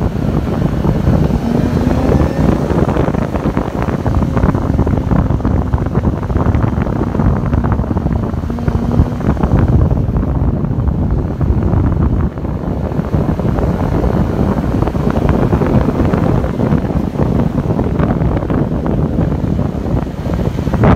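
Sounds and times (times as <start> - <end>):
engine and road rumble: 0.0 - 20.9
wind buffeting microphone: 0.0 - 20.9.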